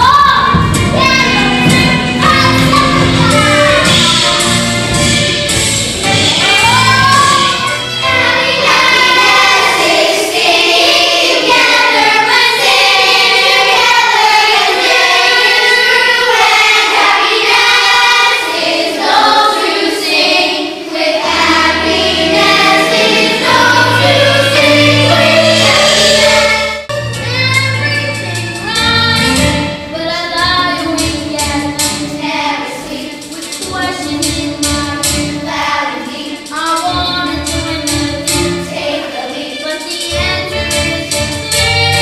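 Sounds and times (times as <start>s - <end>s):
children singing show tune: 0.0s - 42.0s
instrumental accompaniment: 0.0s - 42.0s.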